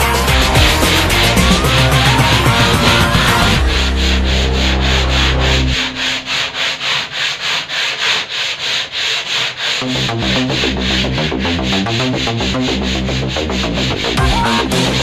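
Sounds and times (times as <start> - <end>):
music with low sustained notes: 0.0 - 7.2, 9.8 - 15.0
hand scrubbing wooden wall: 0.0 - 15.0.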